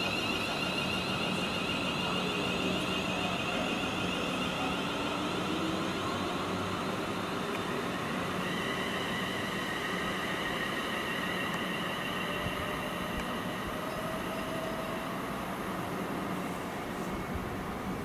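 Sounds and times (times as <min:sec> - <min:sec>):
electric train whining: 0:00.0 - 0:18.0
train wheels rumbling on rail: 0:00.0 - 0:18.0.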